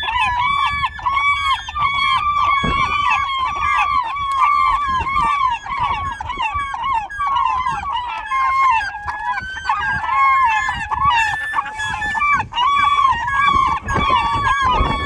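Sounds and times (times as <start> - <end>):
birds honking: 0.0 - 15.0.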